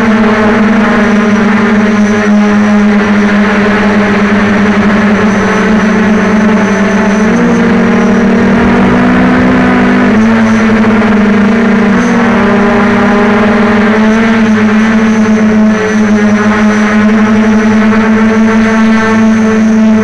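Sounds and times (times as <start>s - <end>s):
quadcopter motors buzzing: 0.0s - 20.0s.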